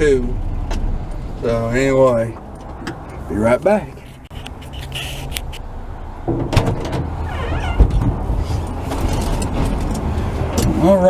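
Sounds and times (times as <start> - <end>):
vehicle handling clicks and clunks: 0.5 - 11.0.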